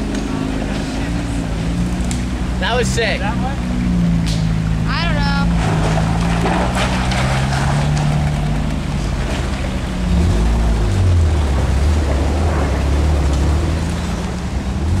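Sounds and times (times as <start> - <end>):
car engine running at low speed: 0.0 - 15.0.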